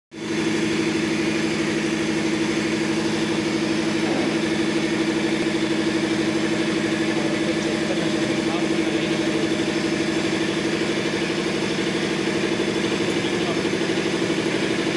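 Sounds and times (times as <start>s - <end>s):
air compressor pump running: 0.1s - 14.9s.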